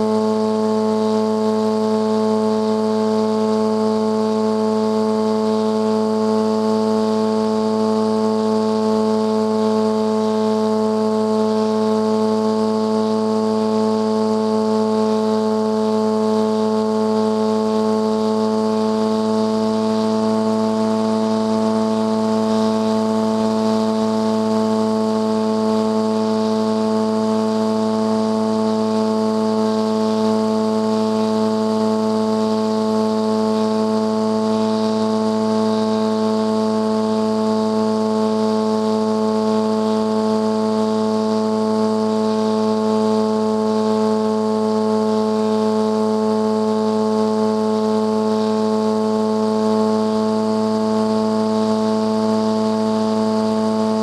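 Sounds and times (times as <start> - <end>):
model airplane motor drone: 0.0 - 54.0.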